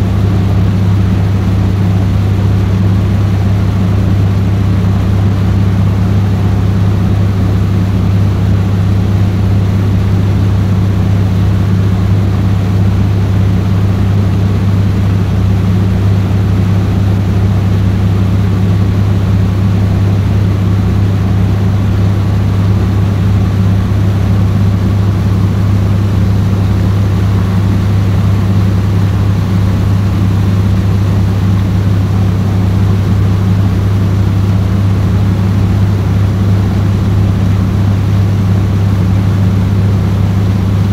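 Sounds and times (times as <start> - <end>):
boat engine deep hum: 0.0 - 40.9.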